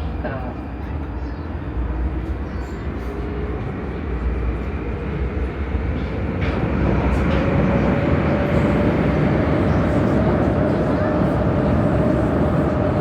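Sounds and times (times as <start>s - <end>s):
metro train rumbling in tunnel: 0.0s - 13.0s.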